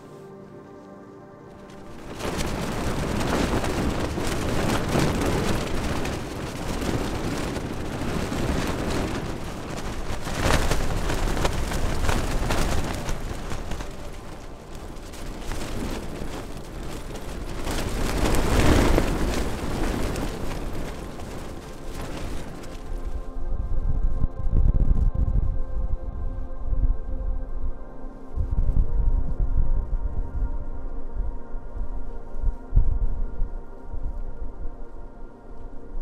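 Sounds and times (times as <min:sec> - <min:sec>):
wind gusting against microphone: 0:01.4 - 0:36.0.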